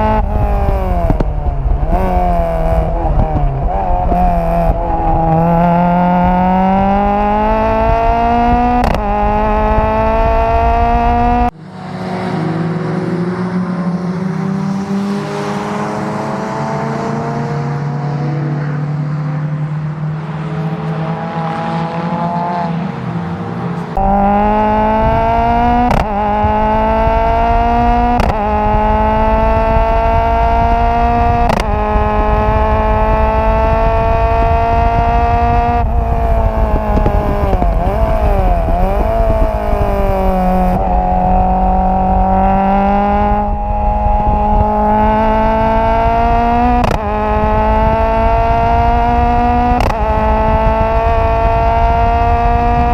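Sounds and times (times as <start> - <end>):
race car engine accelerating: 0.0 - 52.9.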